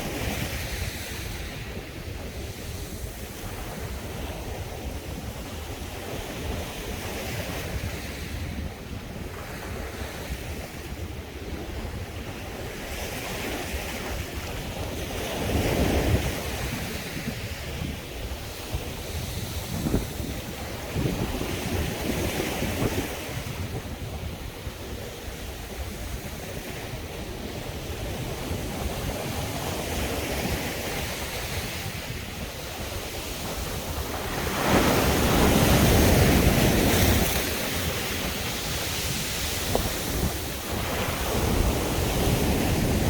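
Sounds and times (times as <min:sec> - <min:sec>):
sea waves washing onto beach: 0:00.0 - 0:43.0
wind rumble on microphone: 0:00.0 - 0:43.0.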